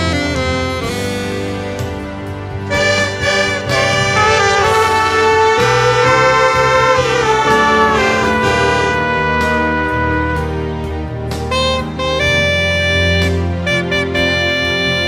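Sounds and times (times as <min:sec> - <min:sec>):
low bass line: 0:00.0 - 0:15.0
saxophones and trumpets melody: 0:00.0 - 0:15.0.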